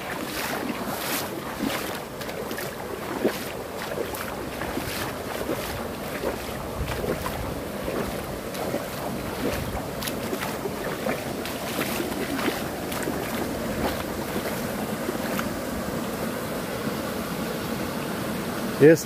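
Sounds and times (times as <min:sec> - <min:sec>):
person wading through water: 0:00.0 - 0:16.6
water splashing: 0:00.0 - 0:16.8.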